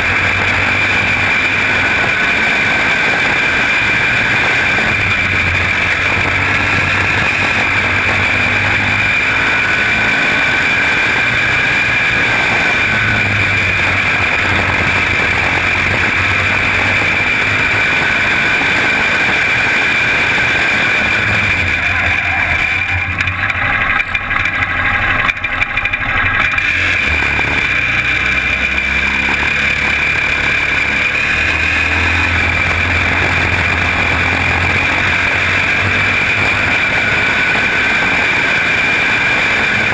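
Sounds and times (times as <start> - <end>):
small race car engine running hard: 0.0 - 39.9.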